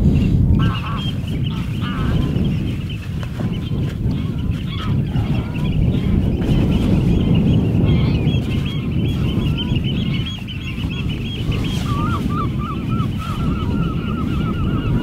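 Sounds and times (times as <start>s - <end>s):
waterbirds chattering: 0.0s - 15.0s
wind on microphone: 0.0s - 15.0s
waterbirds honking: 0.2s - 15.0s.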